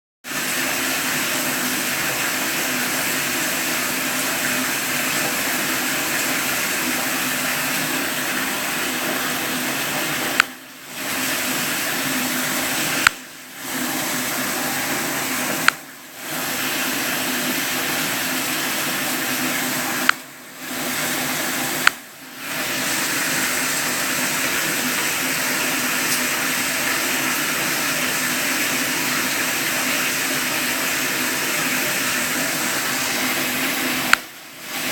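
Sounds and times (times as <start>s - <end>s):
rushing water: 0.2s - 34.9s.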